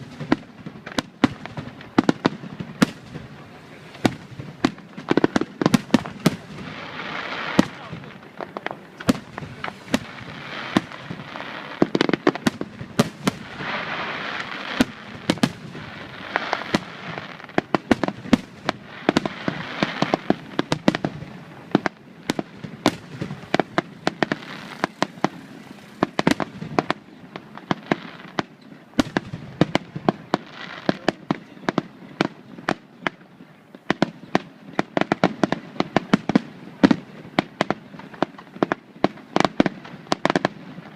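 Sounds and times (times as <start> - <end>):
fireworks bangs: 0.0 - 40.9.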